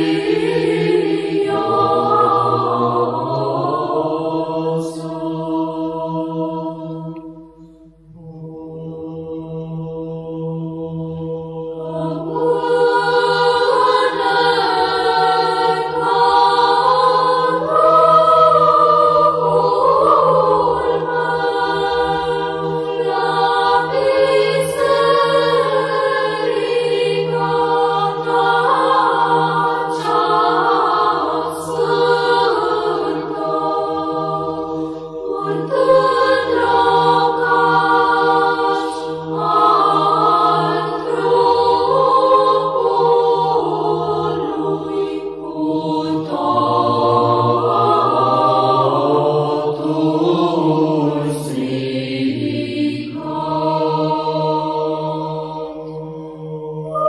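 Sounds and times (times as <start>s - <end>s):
church choir chanting: 0.0s - 57.0s.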